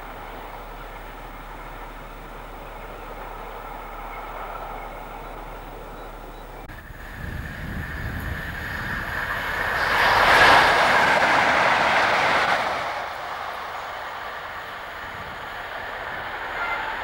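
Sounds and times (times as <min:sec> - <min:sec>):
diesel locomotives passing: 0:00.0 - 0:17.0
train wheel noise: 0:00.0 - 0:17.0.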